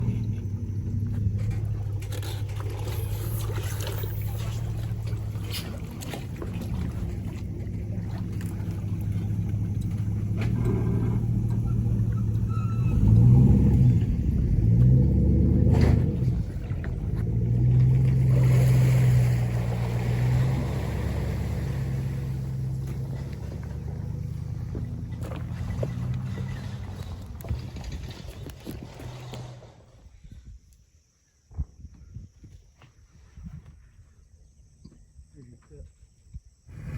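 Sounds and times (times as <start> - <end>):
engine running: 0.0 - 29.9.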